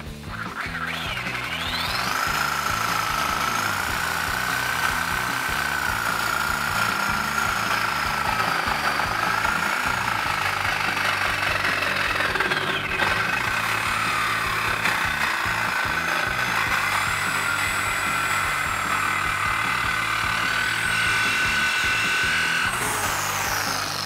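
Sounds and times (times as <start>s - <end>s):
reciprocating saw cutting metal pipe: 0.0s - 24.0s.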